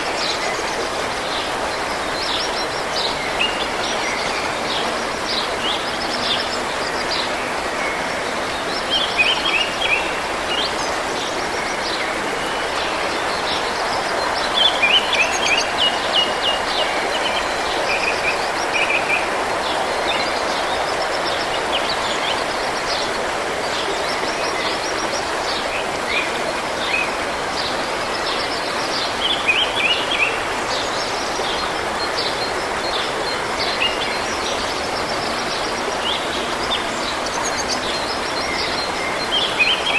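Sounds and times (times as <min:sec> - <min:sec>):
songbirds singing: 0:00.0 - 0:39.9
stream running: 0:00.0 - 0:39.9.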